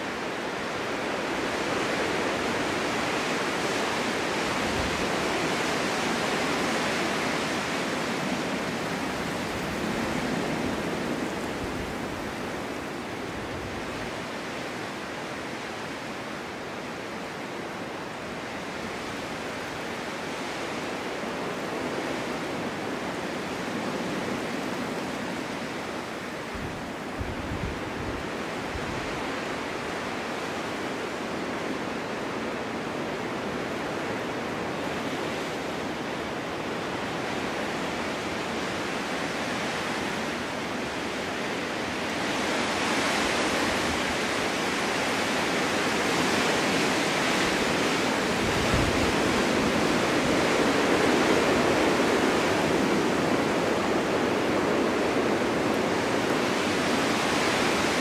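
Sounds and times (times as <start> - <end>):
snowstorm wind blowing: 0.0 - 58.0.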